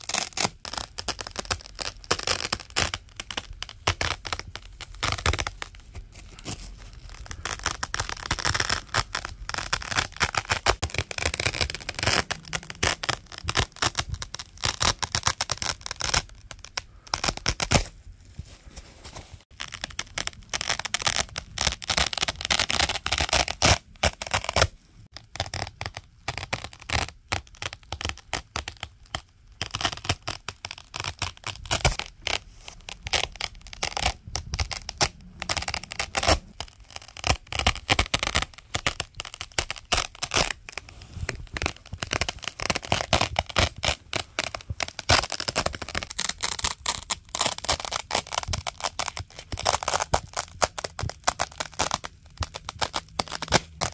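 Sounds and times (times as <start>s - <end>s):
velcro ripping apart: 0.0s - 18.0s, 18.6s - 53.9s.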